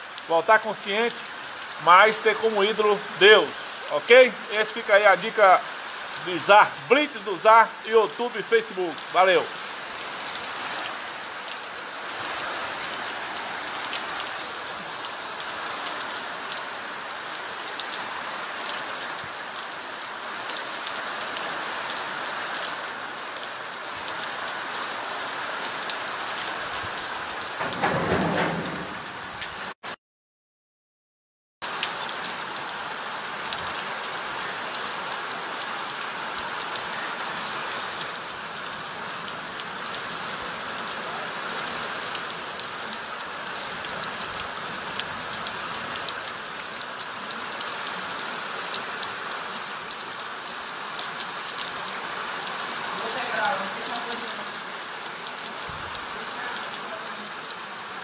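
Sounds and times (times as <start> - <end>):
heavy rain hissing: 0.0 - 29.8, 31.7 - 58.0.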